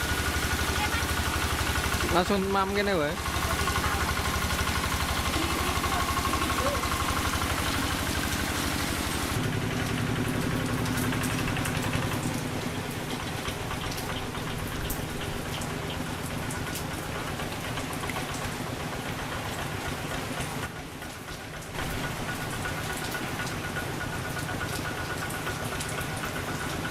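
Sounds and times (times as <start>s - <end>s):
diesel engine running: 0.0s - 26.9s
rain hissing and dripping: 0.0s - 26.9s.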